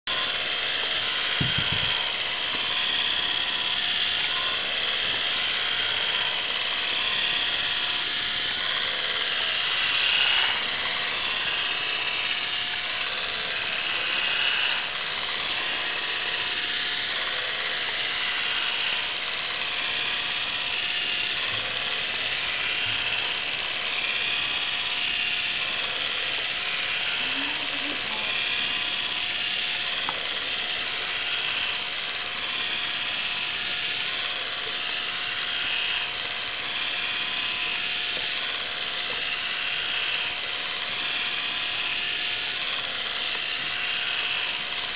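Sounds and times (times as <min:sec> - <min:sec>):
small electric motor whining: 0:00.1 - 0:44.9.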